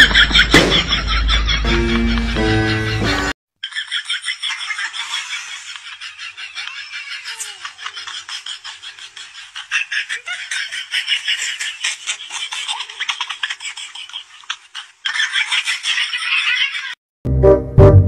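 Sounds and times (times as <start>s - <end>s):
person giggling and laughing: 0.0s - 17.0s.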